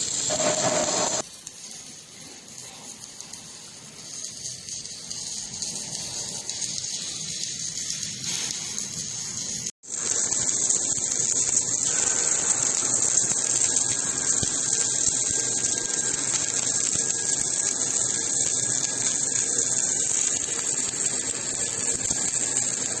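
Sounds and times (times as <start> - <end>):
welding machine hissing and humming: 0.0 - 23.0.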